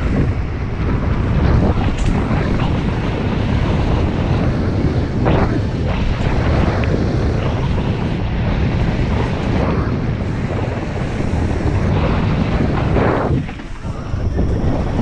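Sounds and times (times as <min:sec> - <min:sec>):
low rumble of ride: 0:00.0 - 0:15.0
wind rushing over microphone: 0:00.0 - 0:15.0.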